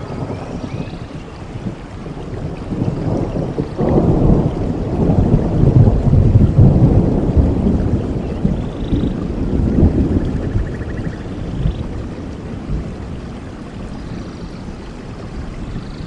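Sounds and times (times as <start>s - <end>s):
steady rain: 0.0s - 16.0s
thunder rolling: 0.0s - 16.0s.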